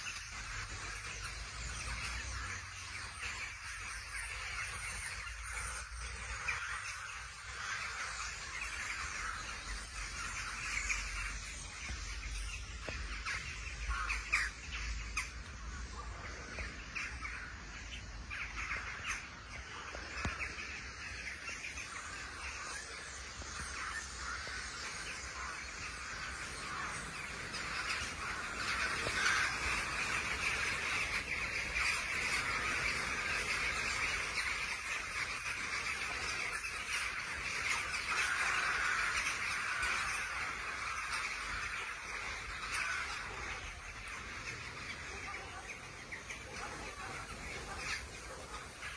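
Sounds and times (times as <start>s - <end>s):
flock of crows cawing: 0.0s - 48.9s.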